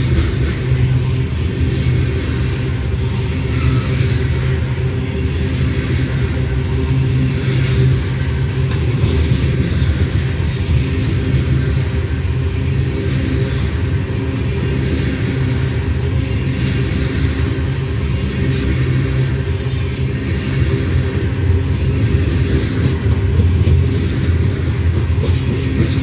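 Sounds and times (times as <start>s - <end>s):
diesel locomotives droning: 0.0s - 26.0s
freight cars rolling on rails: 0.0s - 26.0s.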